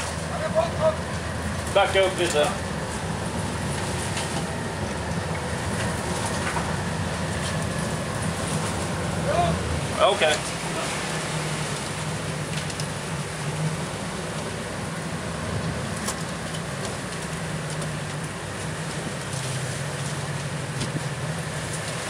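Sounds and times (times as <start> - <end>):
boat engine drone: 0.0 - 22.0
rough sea washing around hull: 0.0 - 22.0
wind: 0.0 - 22.0.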